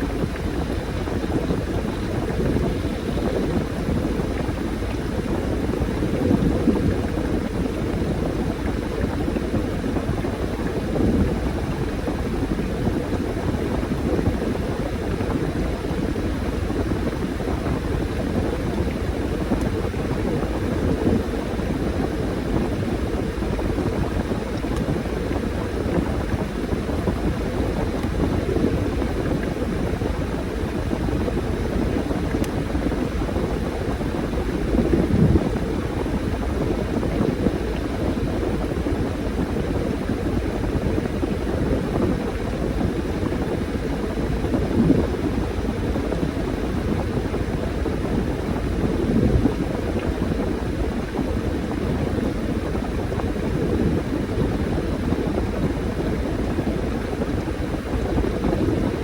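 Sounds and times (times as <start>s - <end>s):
washing machine churning water: 0.0s - 59.0s.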